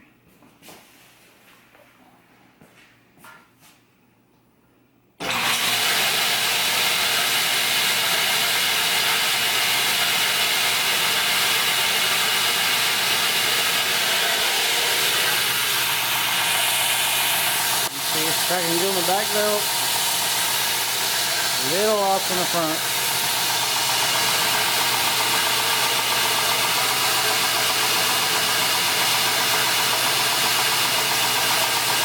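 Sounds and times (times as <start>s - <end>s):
belt grinder running: 5.2s - 32.0s.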